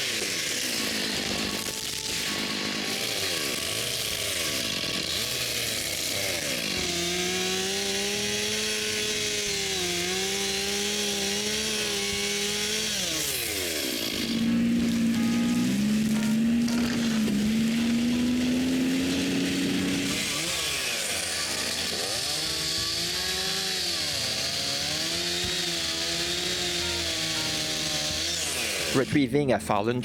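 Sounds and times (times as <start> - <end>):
chainsaw revving: 0.0 - 29.4.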